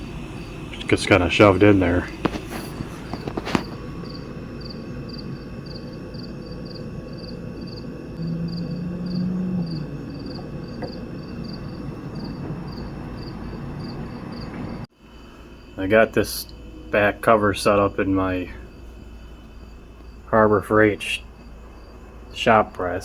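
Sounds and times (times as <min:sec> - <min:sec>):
insect chirping: 0:00.0 - 0:23.0
steady low hum: 0:00.0 - 0:23.0.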